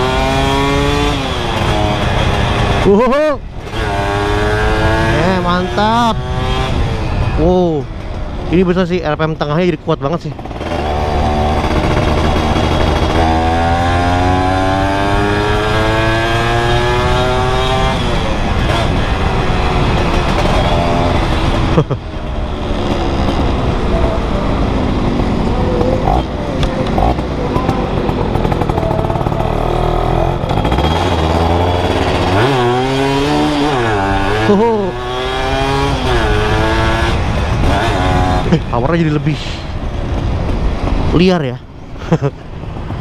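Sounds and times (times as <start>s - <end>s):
motorcycle engine accelerating: 0.0s - 8.5s, 10.3s - 41.1s.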